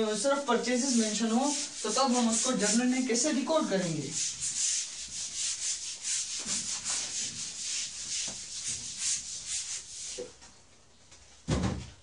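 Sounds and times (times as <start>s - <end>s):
eraser scrubbing whiteboard: 0.1s - 10.3s.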